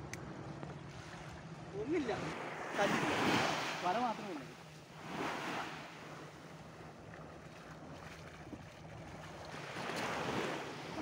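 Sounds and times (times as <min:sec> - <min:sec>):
small waves washing onto sand: 0:00.9 - 0:11.0.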